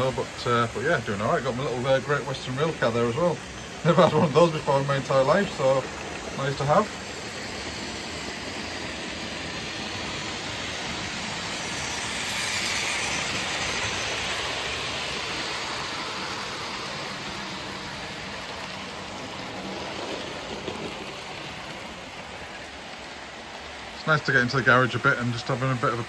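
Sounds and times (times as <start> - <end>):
model trains whirring on track: 0.0 - 26.0.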